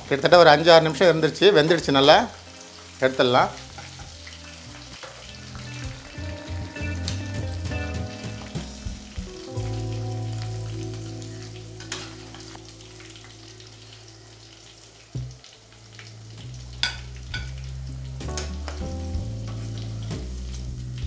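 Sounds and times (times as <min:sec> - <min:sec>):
low background music: 0:00.0 - 0:21.0
squid sizzling in hot oil: 0:00.0 - 0:21.0.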